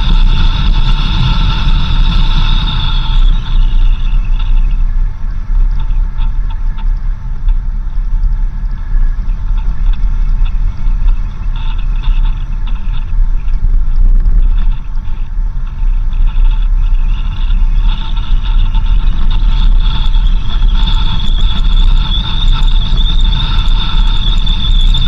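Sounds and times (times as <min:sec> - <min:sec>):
small rattles and ticks: 0:00.0 - 0:25.0
vehicle driving on dirt road: 0:00.0 - 0:25.0.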